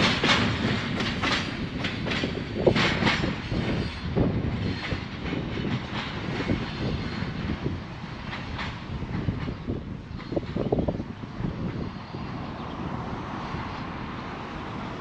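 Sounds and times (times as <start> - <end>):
train rumbling past: 0.0 - 15.0
wheels clattering on rails: 0.0 - 15.0.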